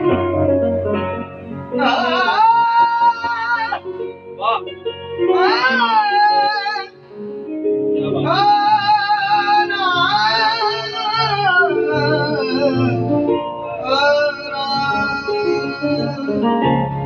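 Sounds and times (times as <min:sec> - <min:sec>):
keyboard playing chords: 0:00.0 - 0:17.0.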